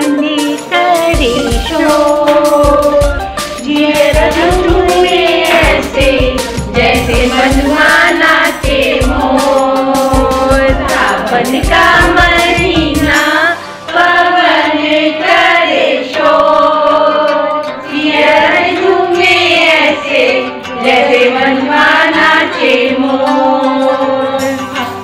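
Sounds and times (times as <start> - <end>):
group of women singing: 0.0 - 24.8.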